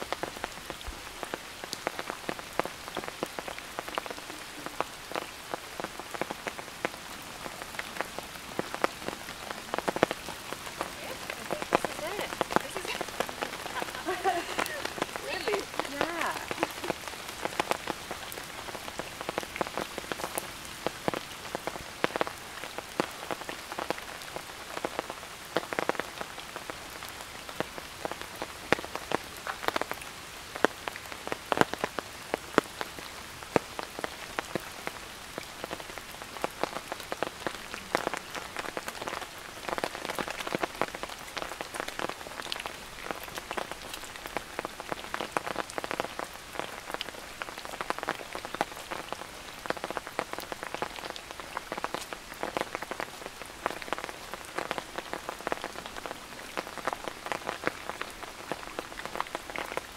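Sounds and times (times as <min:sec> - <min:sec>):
raindrop hits: 0:00.0 - 0:59.9
steady rain: 0:00.0 - 0:59.9.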